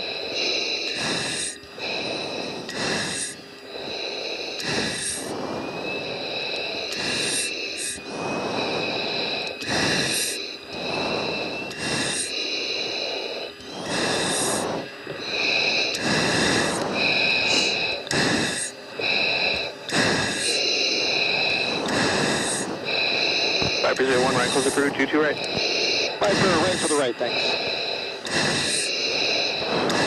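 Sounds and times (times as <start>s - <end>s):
breathing through oxygen mask: 0.0s - 30.0s
faint thin whine rising: 0.0s - 30.0s.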